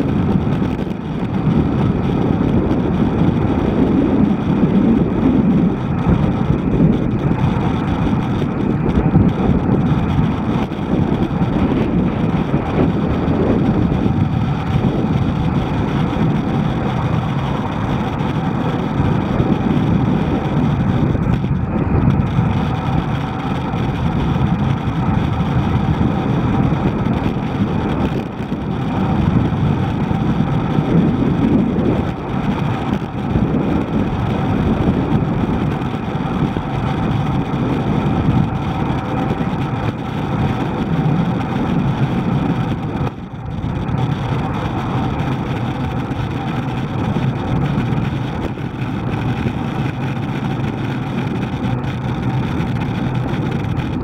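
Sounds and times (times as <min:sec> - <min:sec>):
passing car traffic: 0:00.0 - 0:54.0
wind buffeting microphone: 0:00.0 - 0:54.0.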